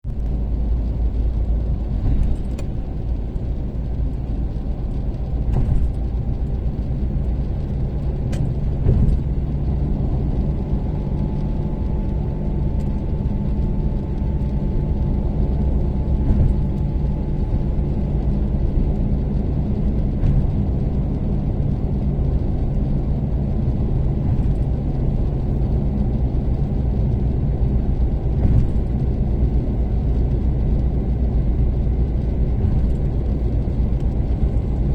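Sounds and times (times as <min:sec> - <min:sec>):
car engine drone: 0:00.0 - 0:34.9
road rumble: 0:00.0 - 0:34.9.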